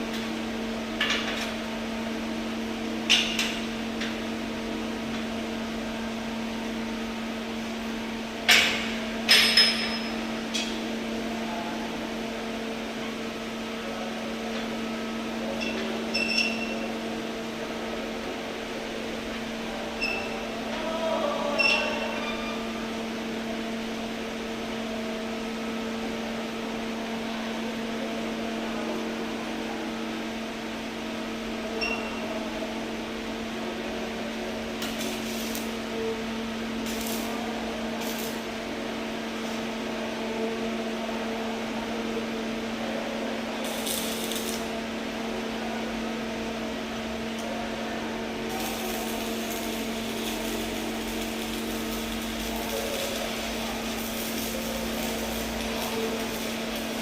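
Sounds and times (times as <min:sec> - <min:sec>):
welding machine humming and hissing: 0:00.0 - 0:57.0.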